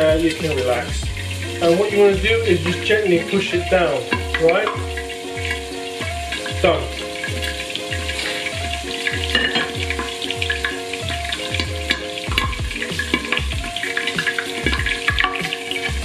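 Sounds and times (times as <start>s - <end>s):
background music with bass beat: 0.0s - 16.0s
meatballs frying in oil: 0.0s - 16.0s.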